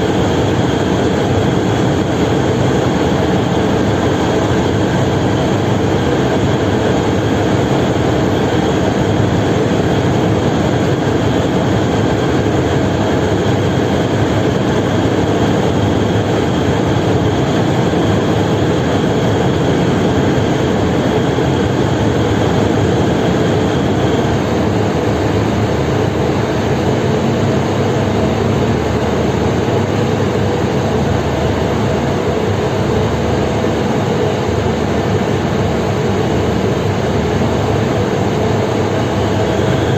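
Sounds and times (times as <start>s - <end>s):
large engine droning: 0.0s - 39.9s.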